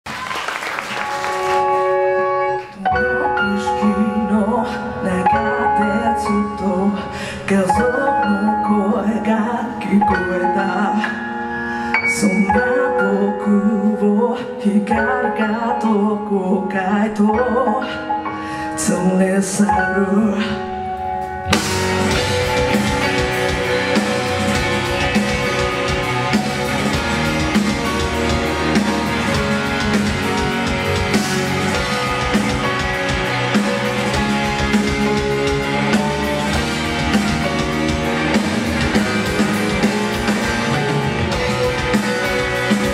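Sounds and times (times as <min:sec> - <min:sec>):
live rock band playing: 0:00.2 - 0:14.1, 0:20.6 - 0:42.9.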